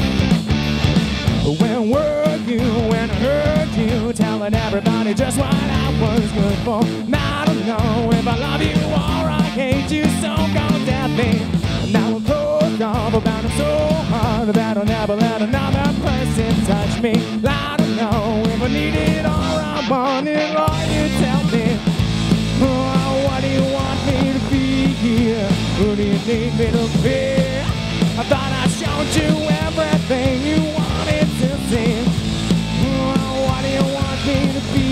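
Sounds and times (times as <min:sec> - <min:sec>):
rock band playing: 0:00.0 - 0:34.9
person singing: 0:01.4 - 0:21.9, 0:22.5 - 0:34.9.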